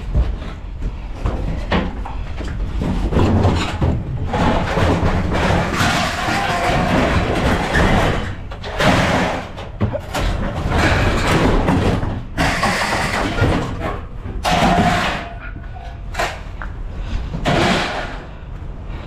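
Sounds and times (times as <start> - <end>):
knocks and scraping: 0.0 - 19.0.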